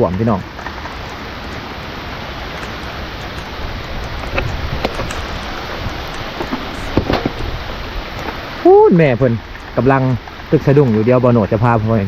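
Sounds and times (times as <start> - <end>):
hiss of flowing water: 0.0 - 12.0.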